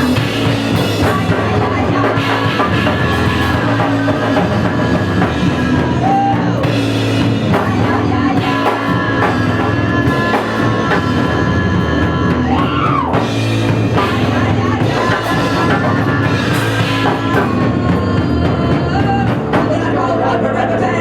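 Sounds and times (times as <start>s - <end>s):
fast drum beat: 0.0s - 20.2s
driving bass guitar: 0.0s - 21.0s.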